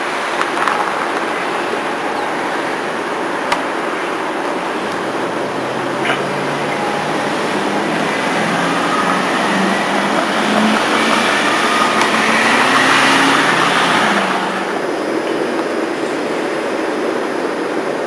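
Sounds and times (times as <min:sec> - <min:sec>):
train wheels rumbling on rail: 0:00.0 - 0:16.4.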